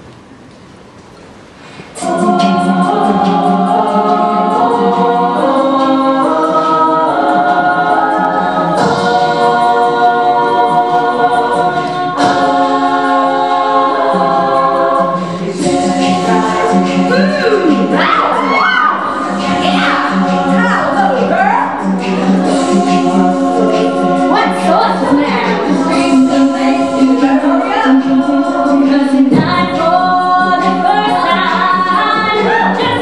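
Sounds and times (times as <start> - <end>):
vocal percussion ticking beat: 1.9 - 33.0
women singing in close harmony: 2.0 - 33.0.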